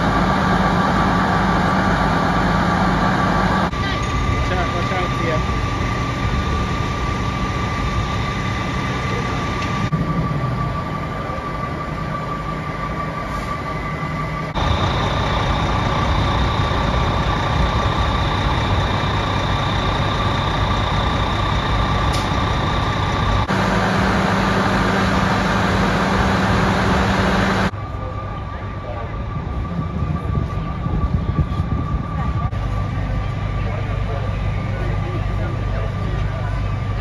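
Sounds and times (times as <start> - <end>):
diesel engines running: 0.0 - 37.0
steady high whine: 0.0 - 37.0.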